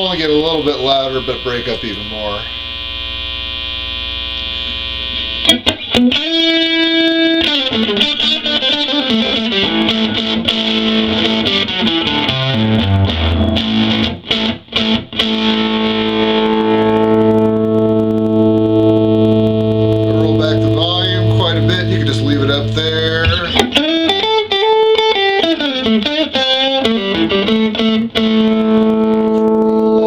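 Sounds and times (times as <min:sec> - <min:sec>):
amp hum: 0:00.0 - 0:30.0
overdriven electric guitar: 0:00.0 - 0:30.0.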